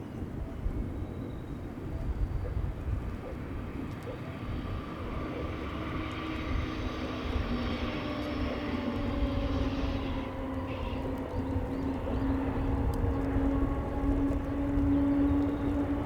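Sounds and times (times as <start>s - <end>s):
diesel locomotive engine drone: 0.0s - 16.0s
low train rumble: 0.0s - 16.0s.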